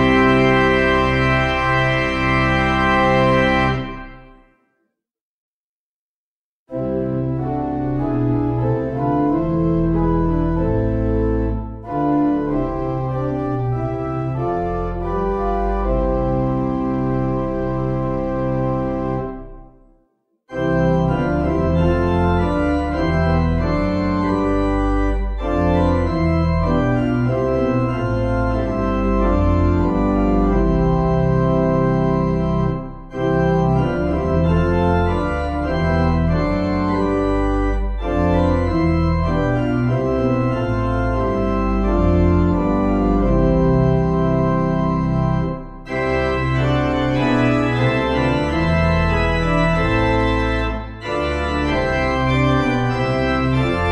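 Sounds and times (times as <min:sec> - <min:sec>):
organ playing held chords: 0:00.0 - 0:04.4, 0:06.7 - 0:19.8, 0:20.5 - 0:53.9.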